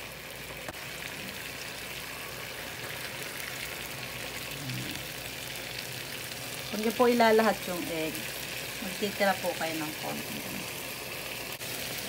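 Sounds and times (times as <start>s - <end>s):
broth bubbling in a frying pan: 0.0s - 12.0s.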